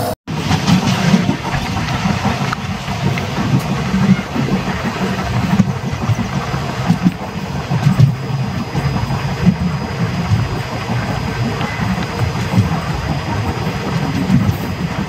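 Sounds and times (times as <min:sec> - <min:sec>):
train coach rumbling on track: 0:00.0 - 0:15.0.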